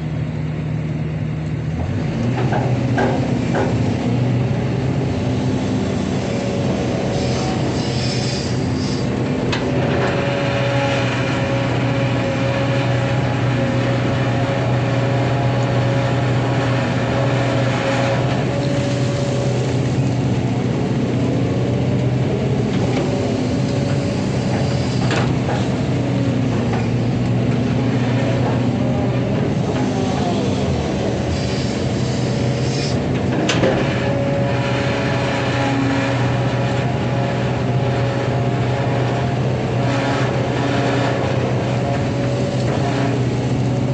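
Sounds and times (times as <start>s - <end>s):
diesel engine drone: 0.0s - 43.9s
hydraulic whine: 1.8s - 43.9s.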